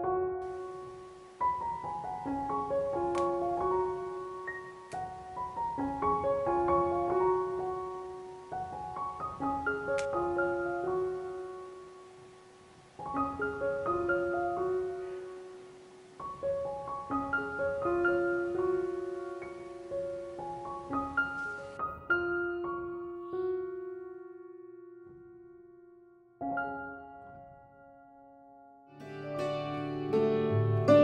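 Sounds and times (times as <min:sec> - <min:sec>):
gentle solo piano piece: 0:00.0 - 0:31.0.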